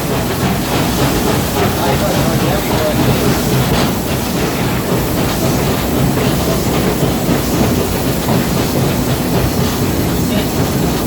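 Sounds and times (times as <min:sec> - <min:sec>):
steam locomotive running: 0:00.0 - 0:11.0
wheels clattering on rails: 0:00.0 - 0:11.0.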